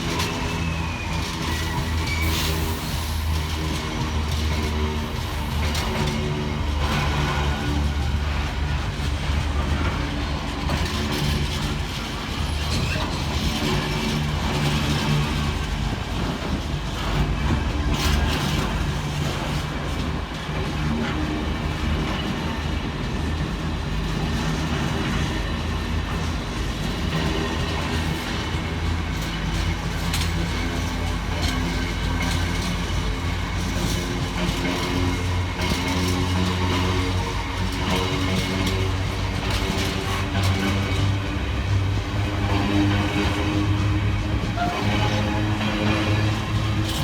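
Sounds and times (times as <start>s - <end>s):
train wagons clattering over rails: 0.0s - 47.0s.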